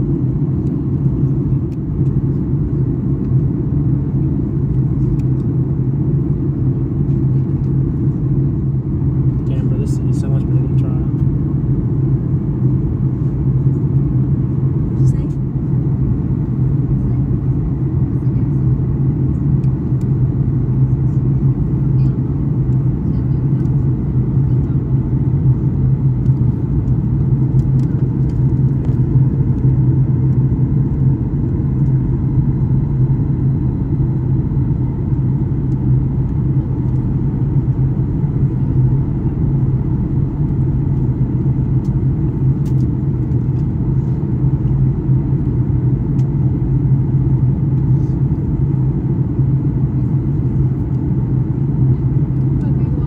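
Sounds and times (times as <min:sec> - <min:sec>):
even hum: 0:00.0 - 0:53.0
jet airliner cabin rumble: 0:00.0 - 0:53.0.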